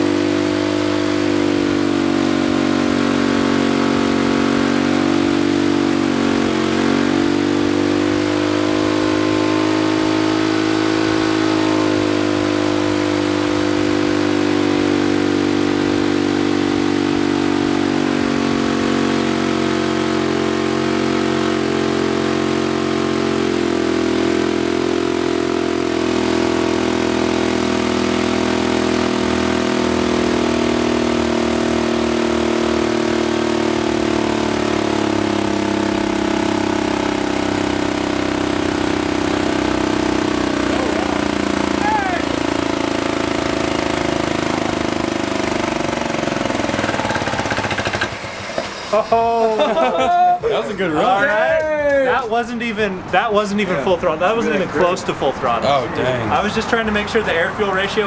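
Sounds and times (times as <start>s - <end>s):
small engine running under load: 0.0s - 50.1s.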